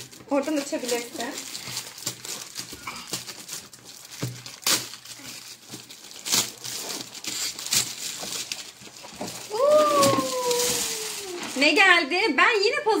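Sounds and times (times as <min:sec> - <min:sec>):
paper ripping: 0:00.0 - 0:12.0
wrapping paper crinkling: 0:00.0 - 0:12.6.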